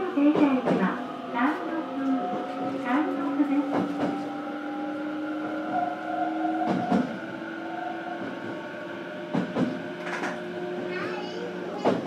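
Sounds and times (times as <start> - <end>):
electric train whine: 0.0 - 12.0
train running noise: 0.0 - 12.0.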